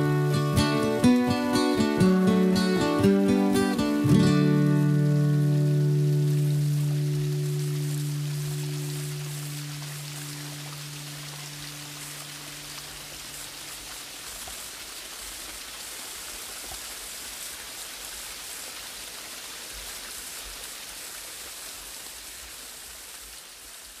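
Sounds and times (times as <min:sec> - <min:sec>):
waterfall splashing: 0:00.0 - 0:24.0.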